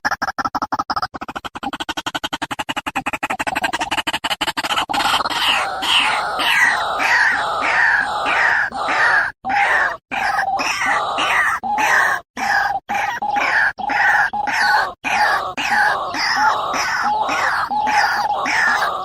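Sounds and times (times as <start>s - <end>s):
bird harsh croaking calls: 0.9s - 19.0s.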